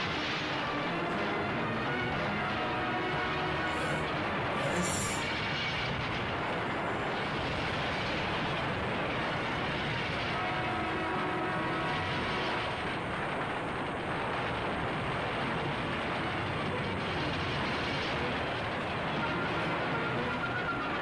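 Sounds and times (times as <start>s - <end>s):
diesel train running on track: 0.0s - 21.0s.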